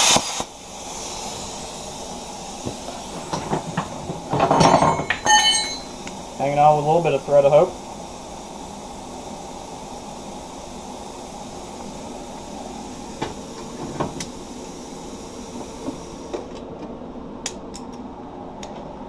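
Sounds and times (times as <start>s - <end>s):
plasma cutter hissing: 0.0s - 16.4s.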